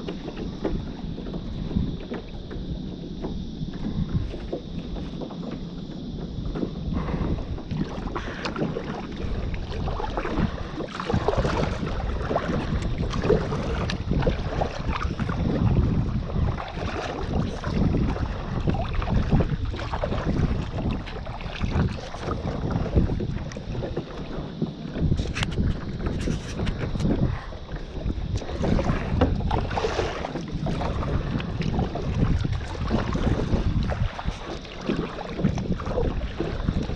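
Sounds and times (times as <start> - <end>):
water splashing and sloshing: 0.0 - 36.9
wind buffeting microphone: 0.0 - 36.9.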